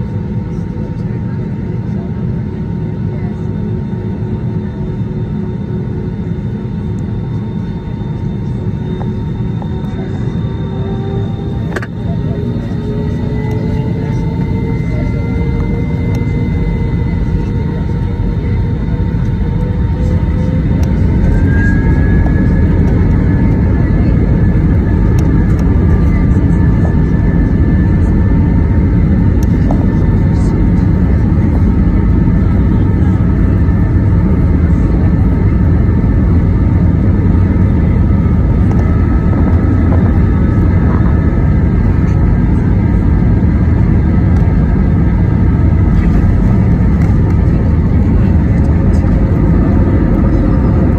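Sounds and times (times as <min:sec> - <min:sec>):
high engine whine: 0:00.0 - 0:50.9
jet engine rumble: 0:00.0 - 0:50.9.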